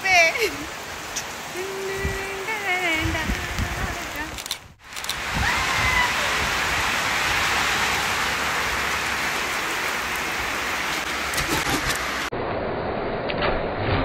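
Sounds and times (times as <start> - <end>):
rain on concrete rooftop: 0.0 - 12.3.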